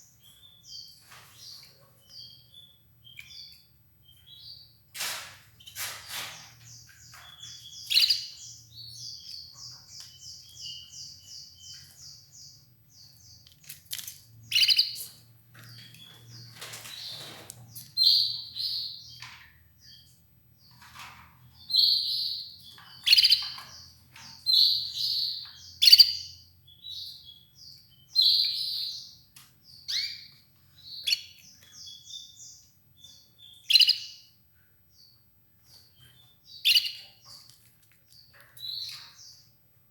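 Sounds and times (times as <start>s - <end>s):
canary singing: 0.0s - 4.8s, 5.6s - 13.6s, 14.4s - 39.6s.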